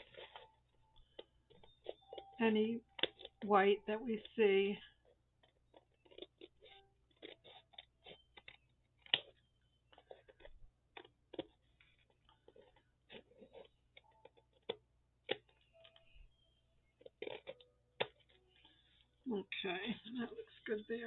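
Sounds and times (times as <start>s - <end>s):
scissors snipping paper: 0.0s - 16.0s, 17.0s - 18.7s.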